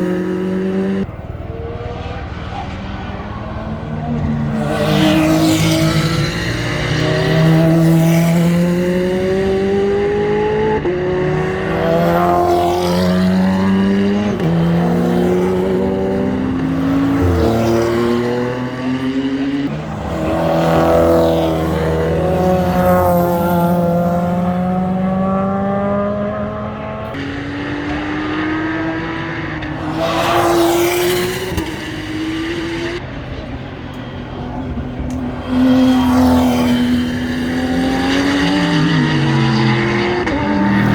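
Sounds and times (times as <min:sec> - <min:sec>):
race cars passing at speed: 0:00.0 - 0:40.9.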